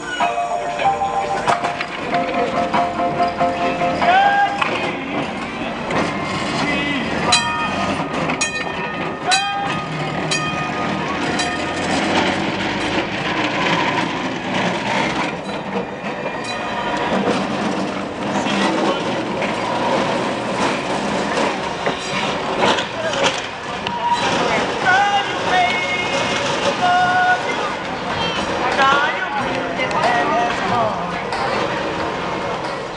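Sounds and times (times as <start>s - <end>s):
streetcar bell clanging: 0.0s - 32.9s
streetcar wheels rumbling on rails: 0.0s - 32.9s.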